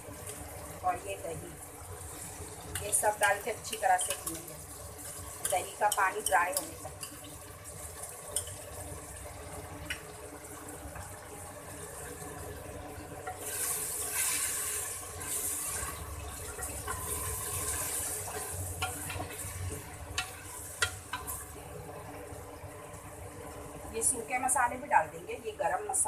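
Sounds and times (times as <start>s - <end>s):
meat sizzling in oil: 0.0s - 25.0s.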